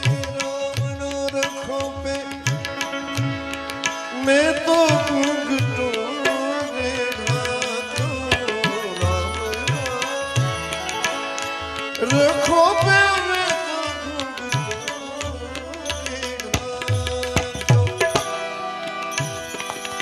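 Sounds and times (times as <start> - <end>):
held melodic tones: 0.0 - 20.0
tabla rhythm: 0.0 - 20.0.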